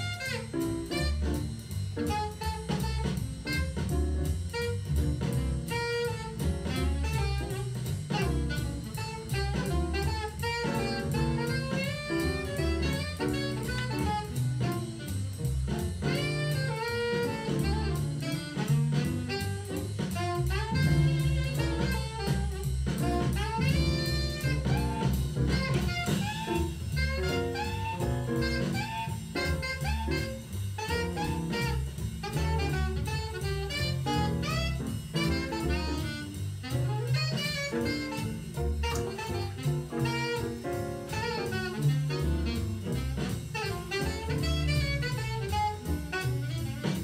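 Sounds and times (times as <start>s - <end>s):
instrumental jazz music: 0.0s - 47.0s
steady beat: 0.0s - 47.0s.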